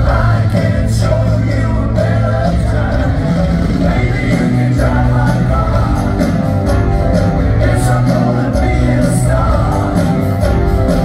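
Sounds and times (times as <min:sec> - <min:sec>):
live rock band playing: 0:00.0 - 0:11.0
man singing: 0:00.0 - 0:11.0.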